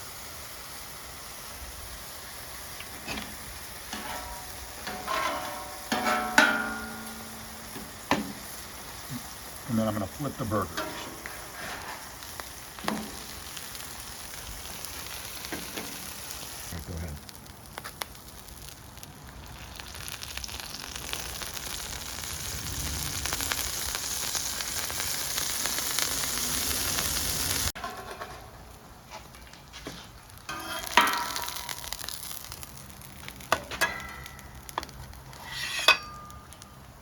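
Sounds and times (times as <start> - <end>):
burgers sizzling on a griddle: 0.0 - 37.0.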